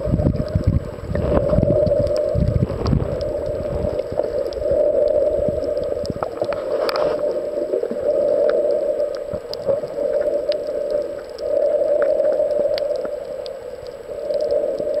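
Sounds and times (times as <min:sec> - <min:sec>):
muffled underwater rushing: 0:00.0 - 0:15.0.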